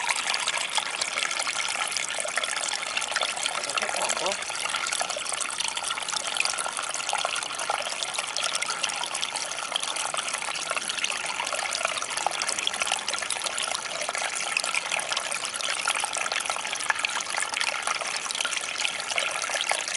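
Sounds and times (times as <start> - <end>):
creek trickling over rocks: 0.0 - 19.9.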